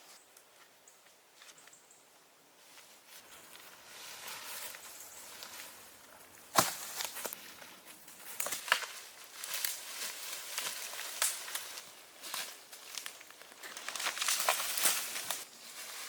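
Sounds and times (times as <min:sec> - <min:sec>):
dry leaves rustling and crackling: 0:02.7 - 0:16.0.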